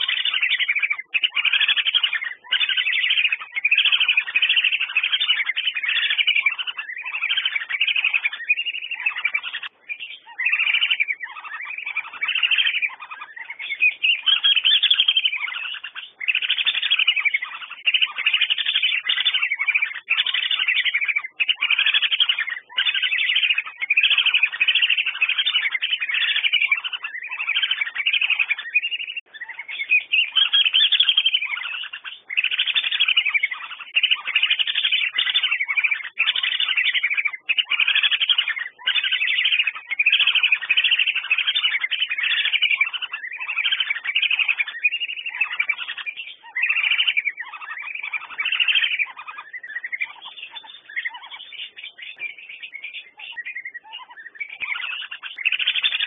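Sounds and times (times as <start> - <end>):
whistling ducks calling: 0.0 - 56.0.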